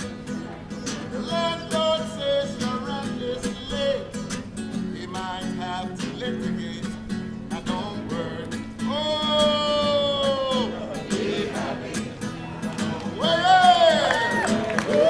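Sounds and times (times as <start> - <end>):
acoustic guitar strumming: 0.0 - 14.8.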